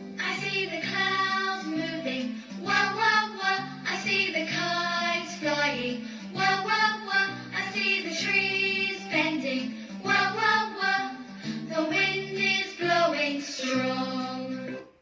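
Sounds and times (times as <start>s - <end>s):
children's song with musical backing: 0.0s - 15.0s.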